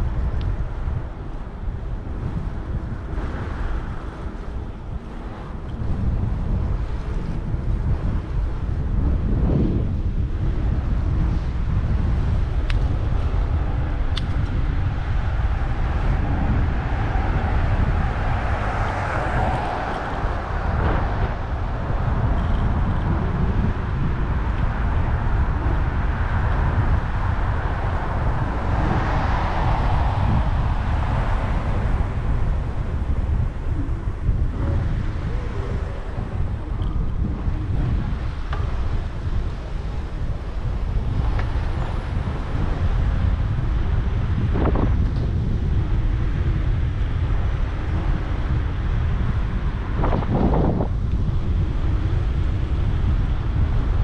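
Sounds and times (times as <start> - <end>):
city street traffic: 0.0 - 54.0
wind buffeting microphone: 0.0 - 54.0.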